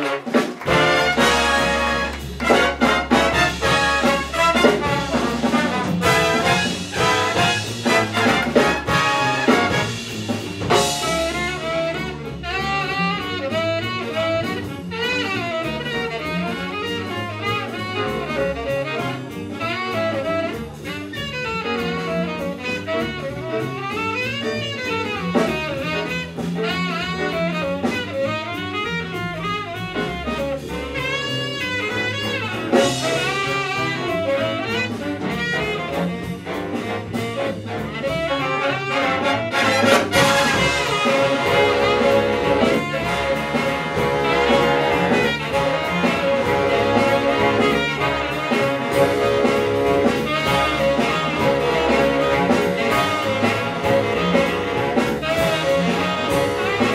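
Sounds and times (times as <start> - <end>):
bass and rhythm section: 0.0 - 56.9
brass backing: 0.0 - 56.9
saxophone solo: 0.0 - 56.9.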